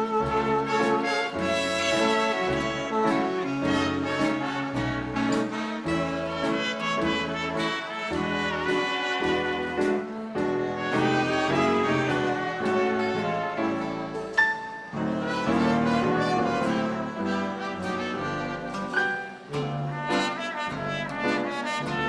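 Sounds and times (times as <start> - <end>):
big band dance music: 0.0 - 22.0.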